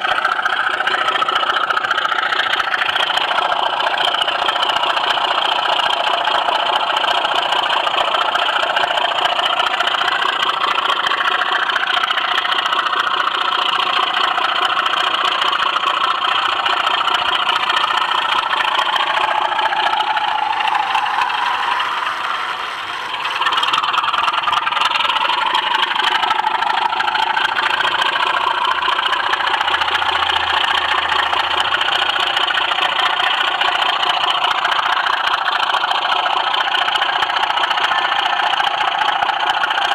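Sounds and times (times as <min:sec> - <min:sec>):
wheels rattling over rails: 0:00.0 - 0:39.9.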